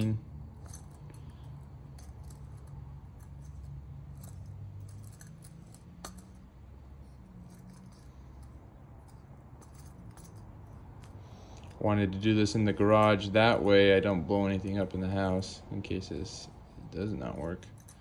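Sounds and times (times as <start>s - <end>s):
light metallic clicks and scrapes: 0.0s - 13.7s, 16.8s - 18.0s.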